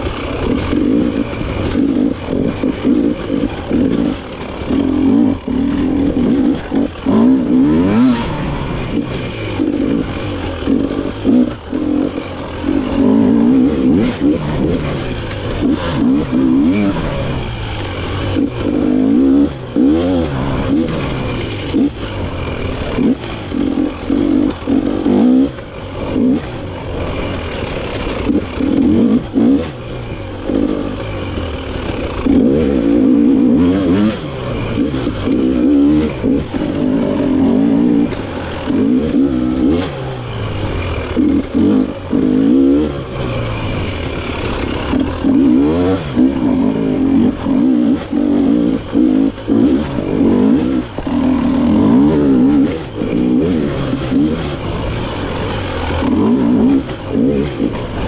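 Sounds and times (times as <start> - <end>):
dirt bike engine revving: 0.0 - 58.0
knocks and clatter over rough ground: 0.0 - 58.0.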